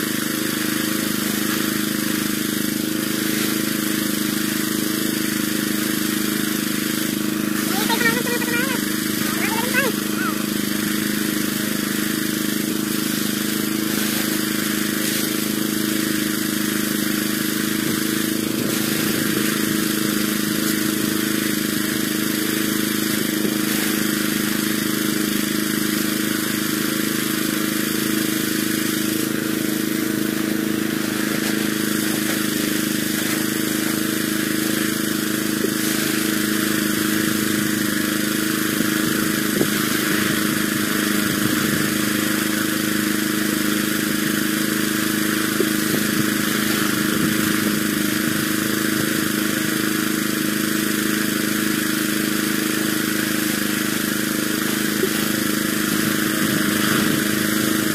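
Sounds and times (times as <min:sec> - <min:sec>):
small engine running: 0:00.0 - 0:57.9.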